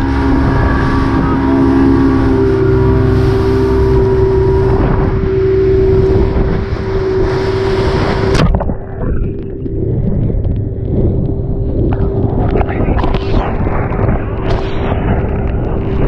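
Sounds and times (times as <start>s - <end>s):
motorboat engine hum: 0.0s - 16.0s
wind on microphone: 0.0s - 16.0s.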